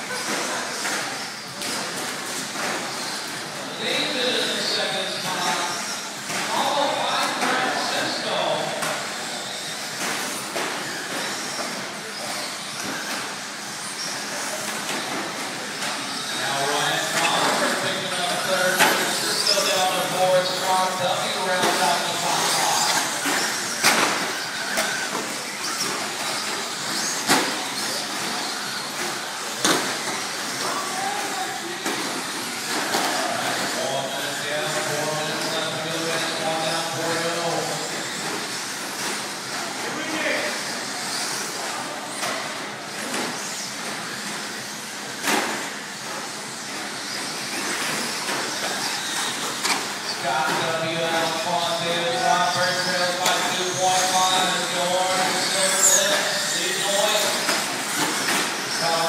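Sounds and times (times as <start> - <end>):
rc truck motors whining: 0.0 - 59.0.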